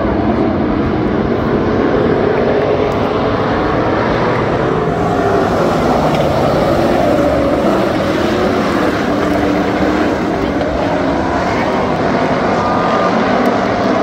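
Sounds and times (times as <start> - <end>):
race car engines roaring: 0.0 - 14.0.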